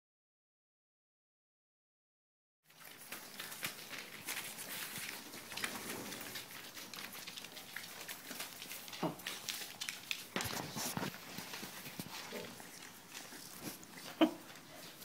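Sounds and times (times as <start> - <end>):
puppies scratching clicks: 2.7 - 15.0
rustling newspaper: 2.7 - 15.0.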